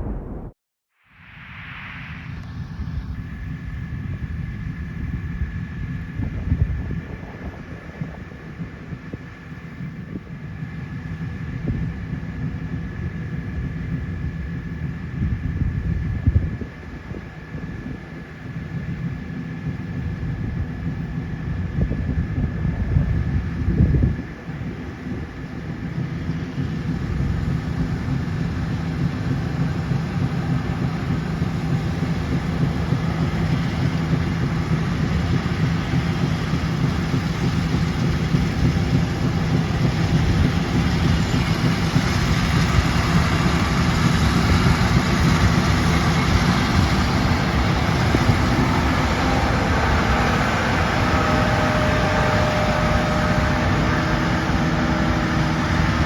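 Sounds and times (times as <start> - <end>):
combine harvester running: 1.6 - 56.0.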